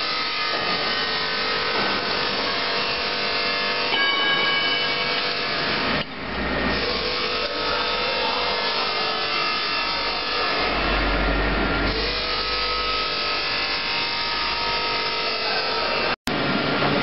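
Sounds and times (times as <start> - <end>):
machine humming tones: 0.0 - 17.0.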